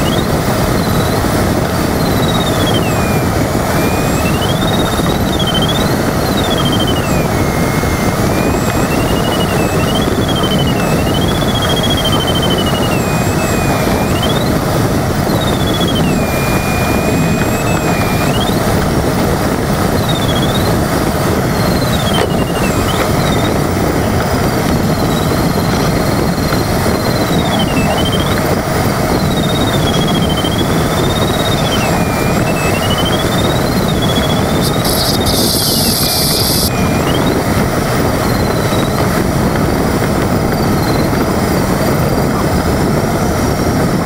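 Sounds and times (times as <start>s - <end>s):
electronic variometer tone sliding: 0.0s - 44.0s
rush of air over cockpit: 0.0s - 44.0s.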